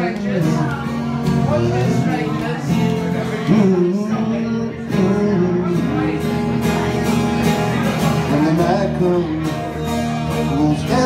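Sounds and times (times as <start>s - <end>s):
person singing: 0.0s - 6.6s, 8.1s - 11.0s
acoustic guitar strumming: 0.0s - 11.0s.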